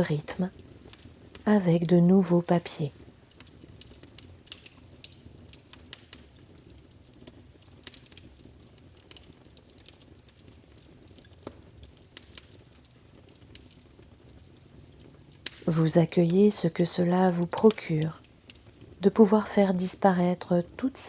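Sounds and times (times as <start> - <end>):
wood fire crackling: 0.0 - 21.0
low hiss of flames: 2.2 - 20.0.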